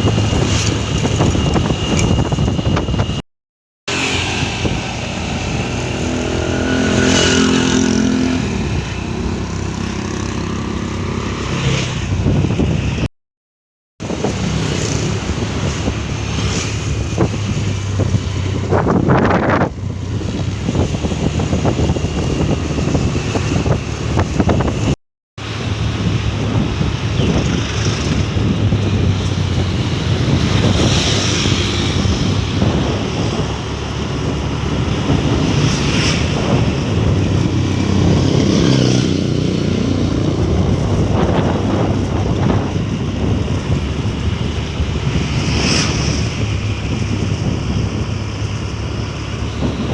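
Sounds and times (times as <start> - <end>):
vehicle engine hum: 0.0 - 3.2, 3.9 - 13.1, 14.0 - 49.9
wind buffeting microphone: 0.0 - 3.2, 3.9 - 13.1, 14.0 - 49.9
vehicles passing: 3.9 - 13.1, 14.0 - 49.9.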